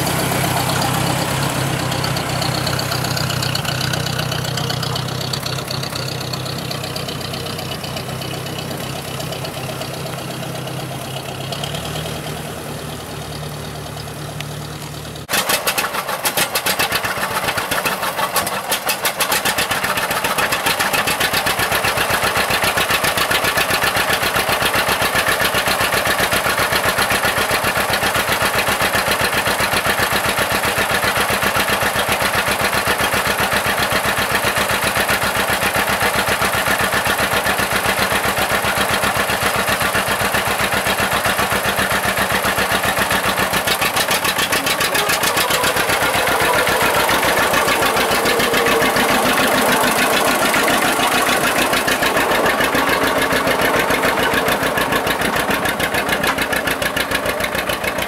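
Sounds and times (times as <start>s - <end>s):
tractor engine running: 0.0s - 58.0s
two-cylinder engine popping: 0.0s - 58.0s.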